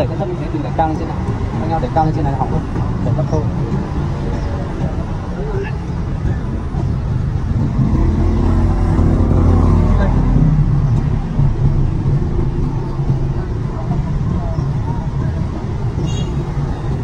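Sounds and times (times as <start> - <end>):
vehicle engine passing: 0.0 - 17.0.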